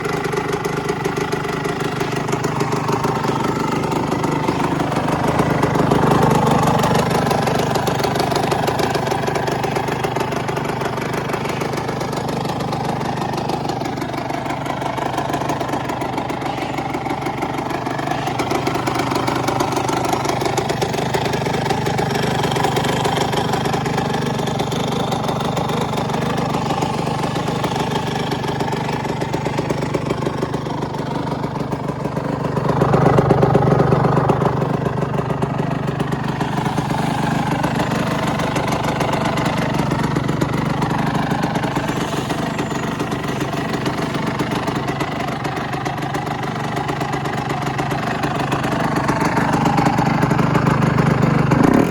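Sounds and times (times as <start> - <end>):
two-stroke engine idling: 0.0 - 51.9.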